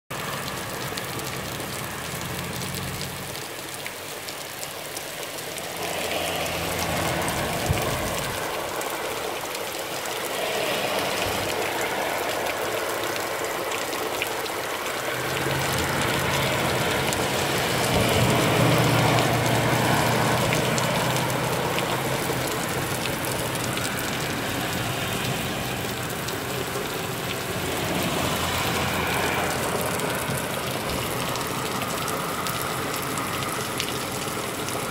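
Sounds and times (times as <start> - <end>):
heavy rain on roof and bushes: 0.1 - 34.9.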